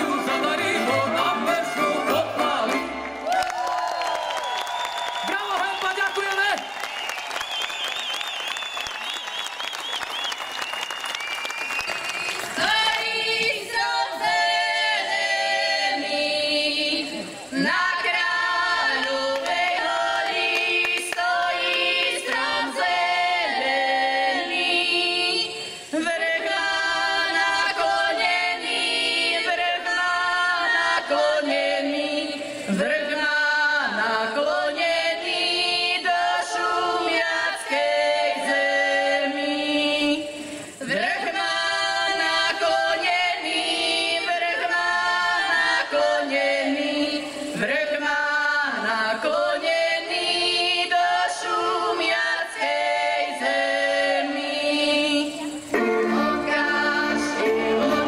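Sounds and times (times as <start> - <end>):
folk vocal group singing: 0.0 - 3.3, 12.4 - 58.0.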